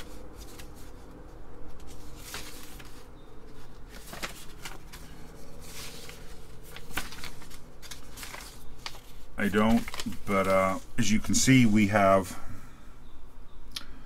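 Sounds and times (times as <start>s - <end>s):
paper sheets rustling: 0.0s - 11.9s.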